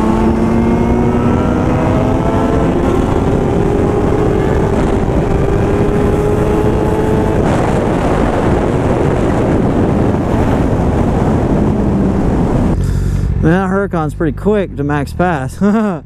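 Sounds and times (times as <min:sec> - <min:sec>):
wind rush: 0:00.0 - 0:13.7
motorcycle engine running: 0:00.0 - 0:16.0.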